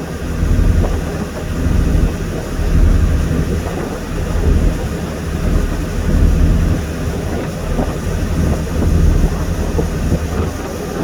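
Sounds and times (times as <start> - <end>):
boat engine drone: 0.0 - 11.0
wind buffeting microphone: 0.0 - 11.0.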